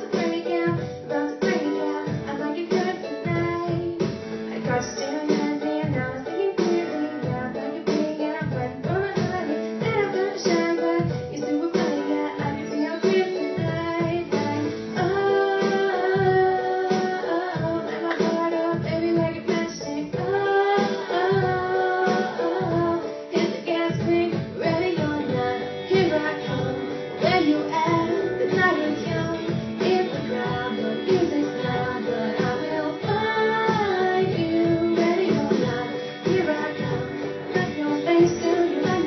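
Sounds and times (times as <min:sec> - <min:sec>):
person singing: 0:00.0 - 0:39.0.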